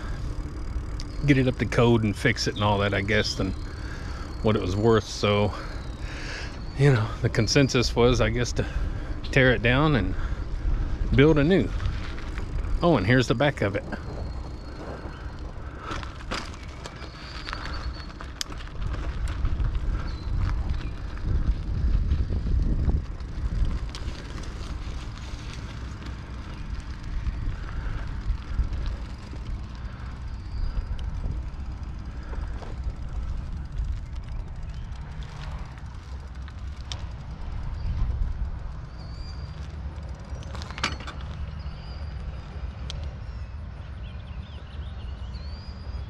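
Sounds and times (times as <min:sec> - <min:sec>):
bicycle clicks: 0:00.0 - 0:46.0
bicycle tyre noise: 0:00.0 - 0:46.0
wind rumbling on microphone: 0:00.0 - 0:46.0.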